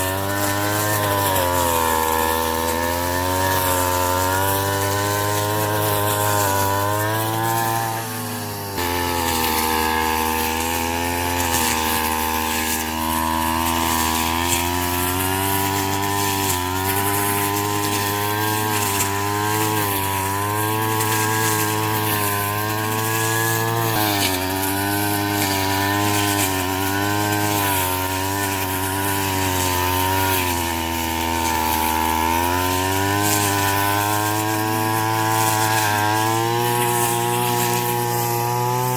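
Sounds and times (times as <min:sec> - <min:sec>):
brush cutter engine cutting straw: 0:00.0 - 0:38.9.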